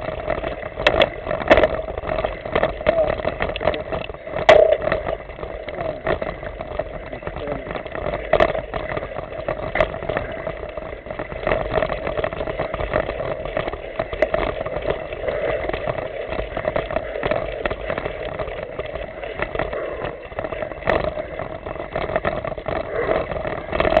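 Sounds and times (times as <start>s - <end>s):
bike knocking and rattling: 0.0s - 24.0s
tyres rumbling on dirt trail: 0.0s - 24.0s
wind on microphone: 0.0s - 24.0s.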